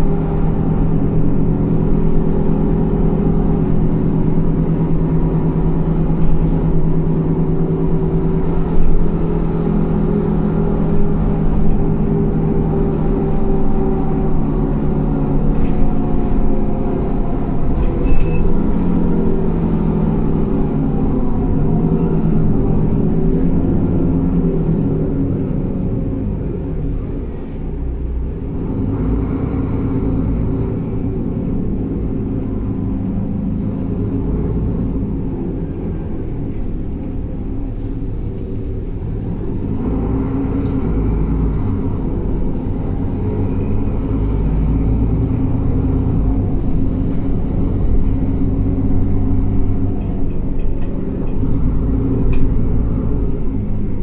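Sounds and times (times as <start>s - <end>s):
bus engine rumble: 0.0s - 54.0s
road noise: 0.0s - 54.0s.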